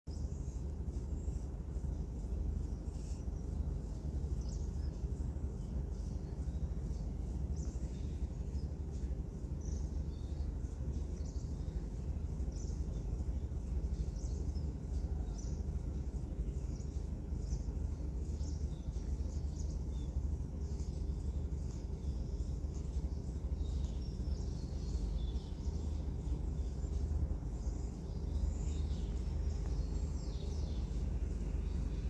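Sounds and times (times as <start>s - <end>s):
faint high chirps: 0.1s - 32.0s
low room rumble: 0.1s - 32.0s.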